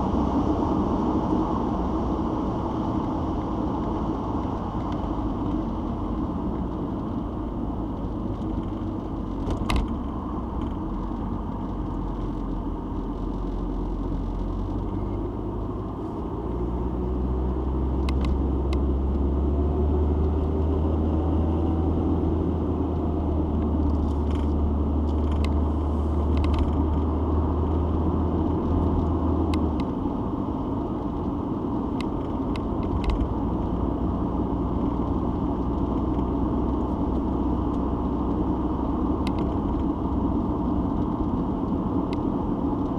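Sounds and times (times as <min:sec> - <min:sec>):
car cabin engine and road hum: 0:00.0 - 0:42.9.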